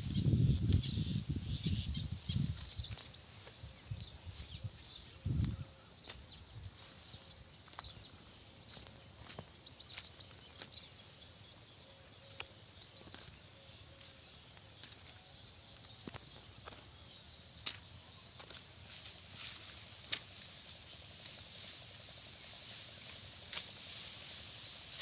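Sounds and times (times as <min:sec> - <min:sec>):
outdoor background noise: 0:00.0 - 0:25.0
small birds trilling: 0:00.0 - 0:25.0.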